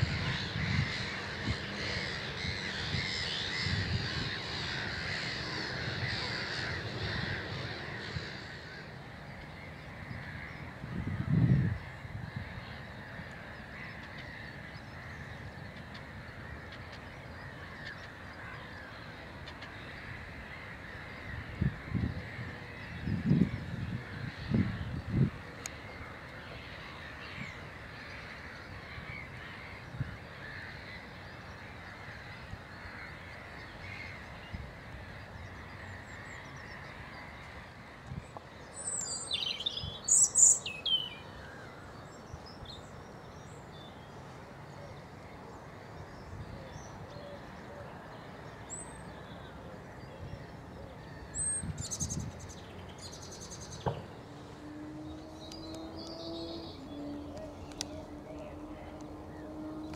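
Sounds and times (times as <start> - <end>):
wild birds calling: 0.0 - 59.9.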